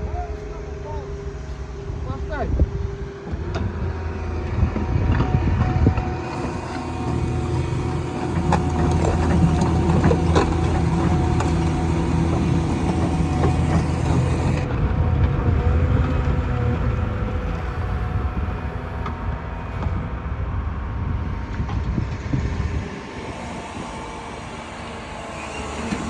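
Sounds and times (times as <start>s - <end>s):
plate compactor running: 0.0s - 26.0s.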